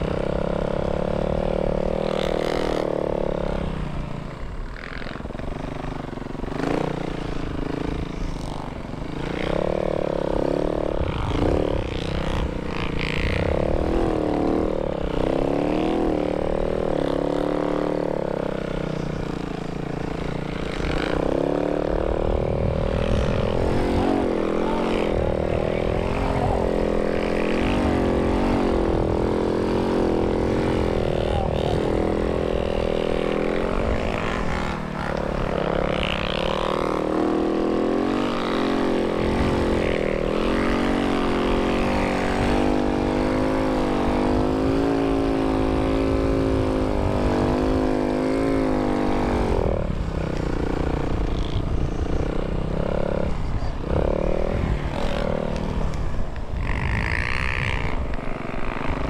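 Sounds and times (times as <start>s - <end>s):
snow bike engine running: 0.0s - 59.0s.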